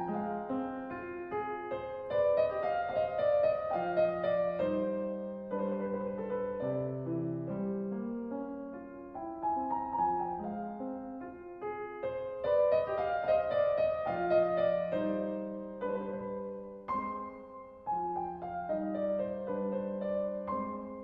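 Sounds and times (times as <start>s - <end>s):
calm piano music: 0.0s - 21.0s.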